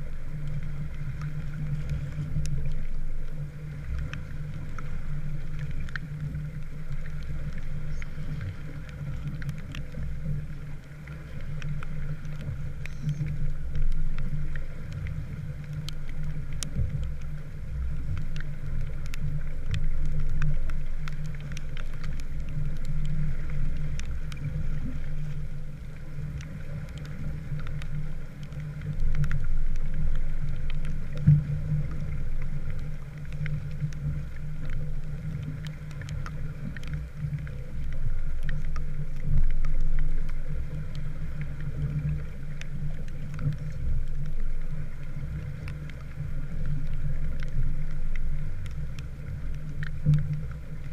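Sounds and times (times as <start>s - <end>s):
light ticks: 0.0s - 50.9s
water and wind rumble: 0.0s - 50.9s.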